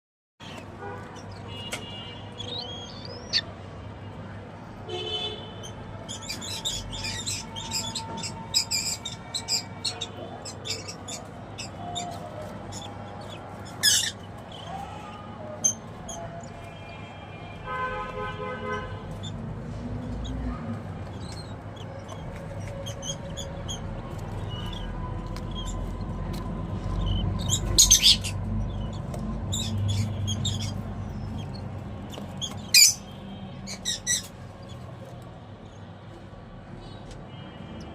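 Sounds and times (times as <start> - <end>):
caged birds chirping: 0.4 - 37.9.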